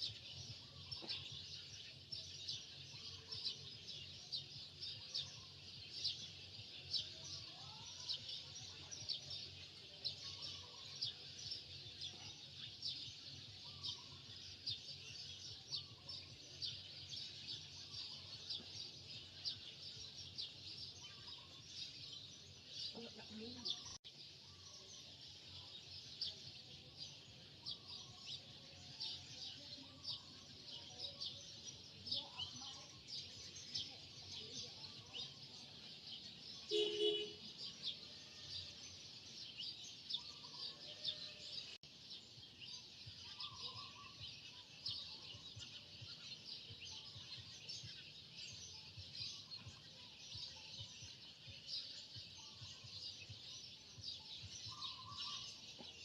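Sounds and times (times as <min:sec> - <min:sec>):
chorus of birds chirping: 0:00.0 - 0:56.0.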